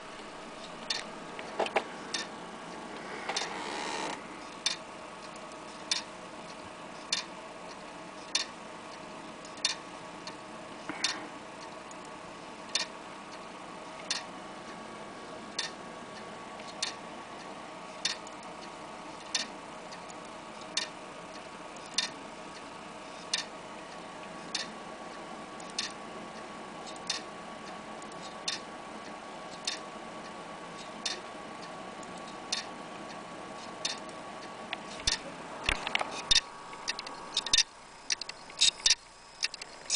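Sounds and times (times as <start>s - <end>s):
faint steady hum: 0.0s - 39.9s
hard drive clicking: 0.0s - 39.9s.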